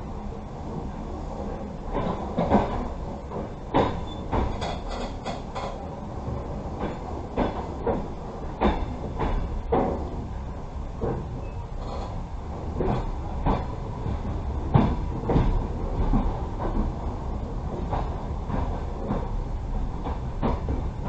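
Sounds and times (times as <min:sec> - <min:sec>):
train carriage rumbling on rails: 0:00.0 - 0:21.0.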